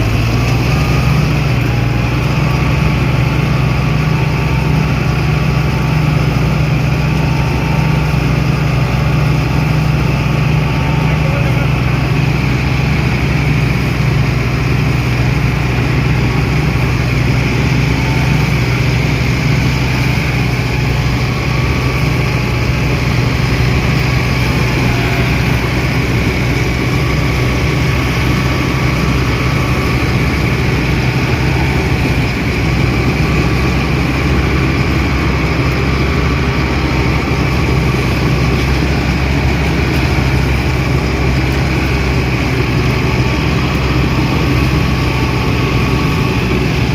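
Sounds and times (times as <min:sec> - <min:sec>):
combine harvester engine drone: 0:00.0 - 0:46.9
high machinery whine: 0:00.0 - 0:46.9.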